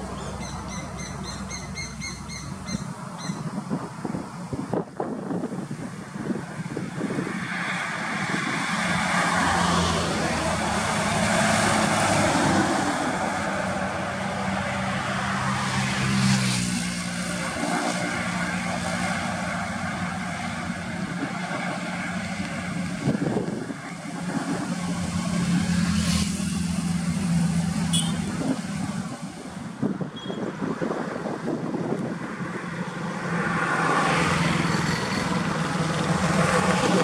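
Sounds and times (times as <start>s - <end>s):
bus engine humming: 0.0s - 30.3s, 30.9s - 37.0s
rush of tyres: 2.5s - 37.0s.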